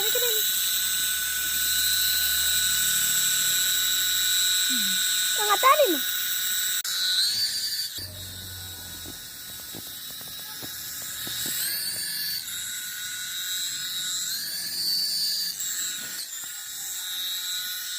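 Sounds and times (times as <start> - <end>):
toy helicopter motor whine: 0.0 - 17.9.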